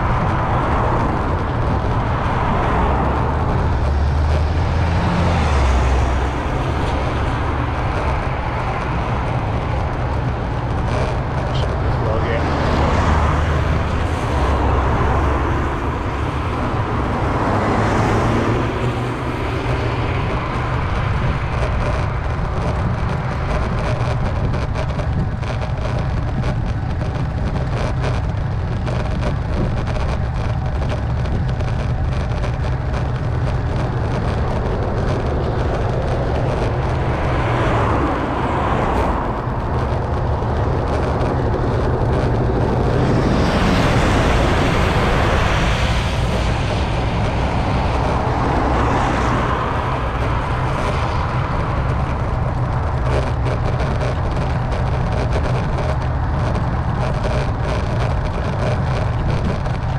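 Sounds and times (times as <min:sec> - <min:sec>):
vehicle passing: 0:00.0 - 0:25.6, 0:31.1 - 0:58.2
road traffic rumble: 0:00.0 - 0:59.9.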